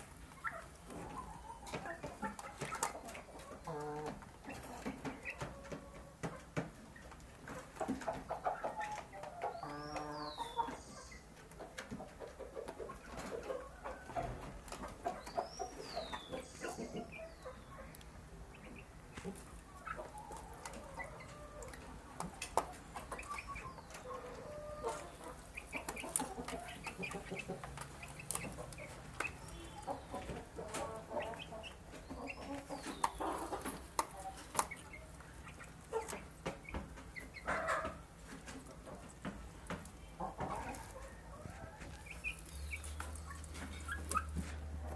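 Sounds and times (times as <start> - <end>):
young chickens clucking: 0.0 - 44.9.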